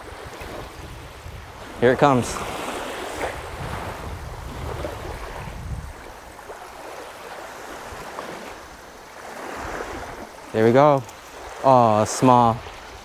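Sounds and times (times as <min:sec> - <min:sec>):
waves lapping onto beach: 0:00.0 - 0:13.0.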